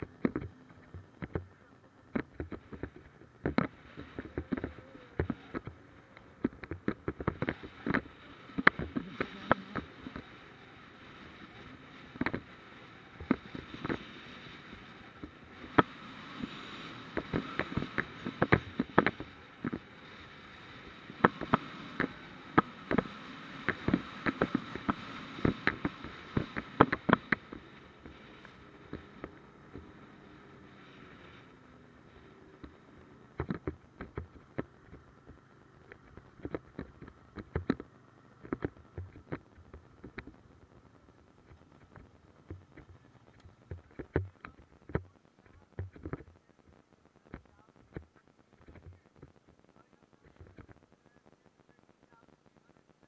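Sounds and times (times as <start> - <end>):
snowmobile engine drone: 0.0 - 52.8.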